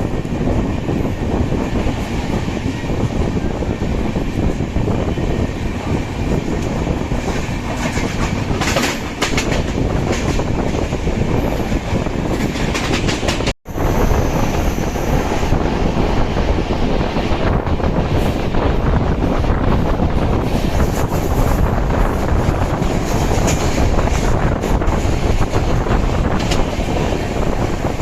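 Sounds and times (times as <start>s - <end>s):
clickety-clack over rail joints: 0.0s - 13.6s, 16.0s - 28.0s
train wheels rumbling on rails: 0.0s - 28.0s.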